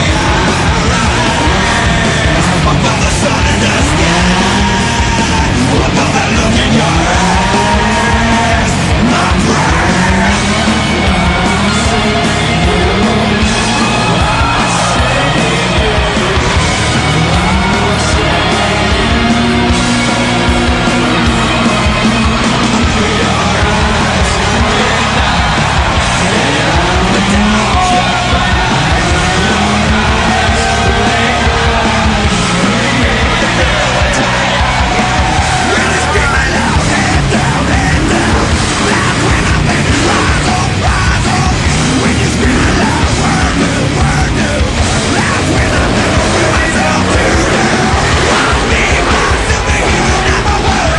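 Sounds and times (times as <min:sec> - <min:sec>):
hard rock music with yelled vocals: 0:00.0 - 0:50.9
steady drum beat: 0:00.0 - 0:50.9.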